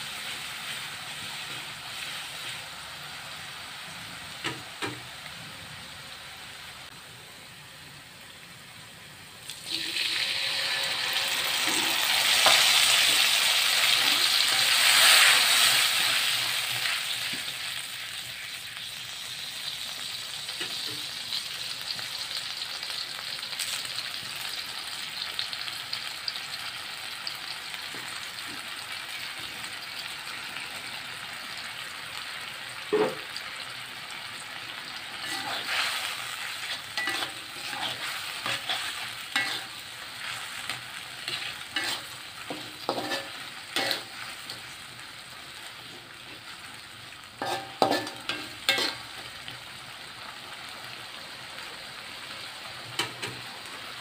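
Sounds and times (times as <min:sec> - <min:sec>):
oil sizzling in a wok: 0:00.0 - 0:54.0.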